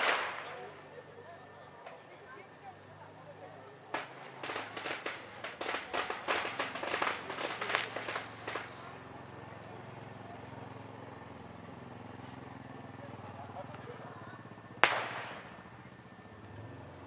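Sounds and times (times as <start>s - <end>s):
faint insect chirps: 0.0s - 17.0s
firecrackers crackling: 0.0s - 17.0s.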